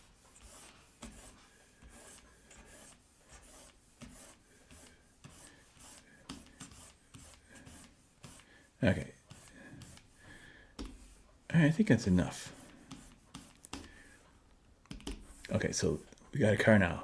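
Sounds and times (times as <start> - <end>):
stylus scratching on drawing tablet: 0.0 - 14.3, 14.9 - 16.8.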